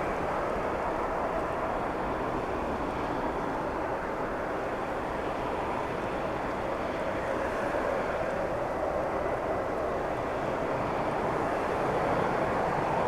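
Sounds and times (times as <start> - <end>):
distant jet engines rushing: 0.0 - 13.0.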